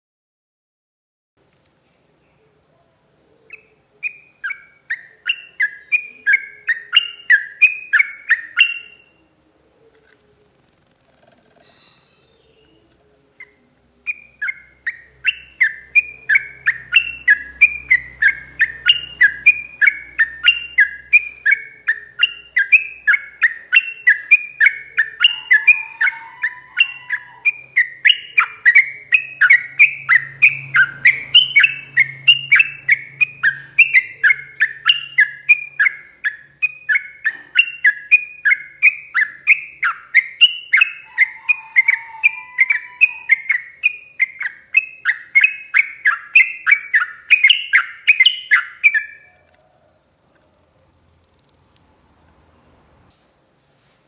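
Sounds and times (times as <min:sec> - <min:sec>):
bird chattering song: 0:03.4 - 0:09.2, 0:11.0 - 0:52.1.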